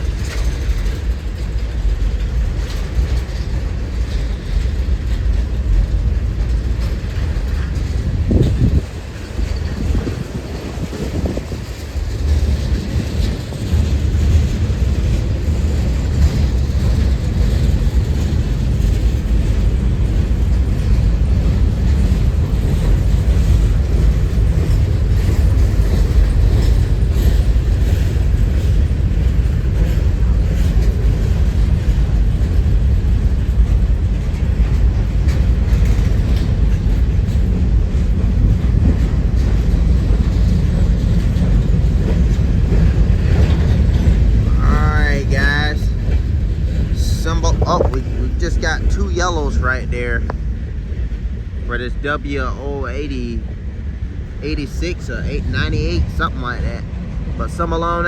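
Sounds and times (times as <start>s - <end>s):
train rolling past: 0.0s - 58.0s
wind buffeting microphone: 0.0s - 58.0s.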